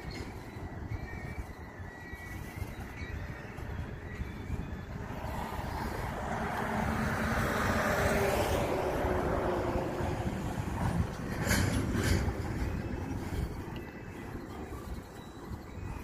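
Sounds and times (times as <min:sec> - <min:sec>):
freight train wheels rumbling on rail: 0:00.0 - 0:16.0
wind on microphone: 0:00.0 - 0:16.0.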